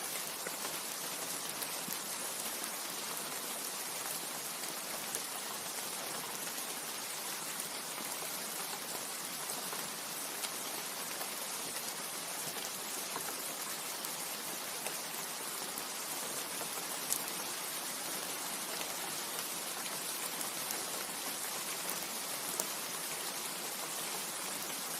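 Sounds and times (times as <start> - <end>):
rain falling on leaves: 0.0 - 24.9.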